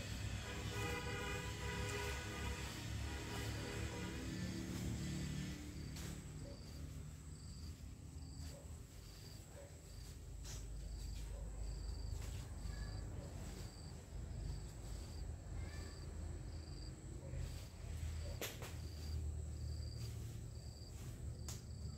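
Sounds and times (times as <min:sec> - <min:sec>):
insects chirping: 0:02.6 - 0:21.9.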